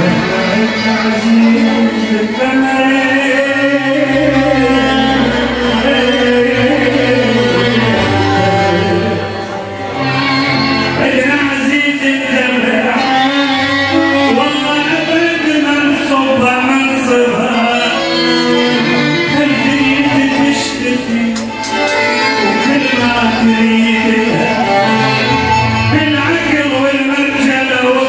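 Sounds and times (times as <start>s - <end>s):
live band accompaniment: 0.0s - 28.0s
man singing into a microphone: 0.0s - 28.0s.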